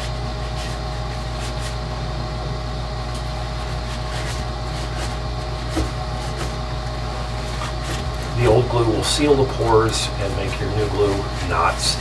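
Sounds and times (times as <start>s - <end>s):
machine hum with whining tone: 0.0s - 12.0s.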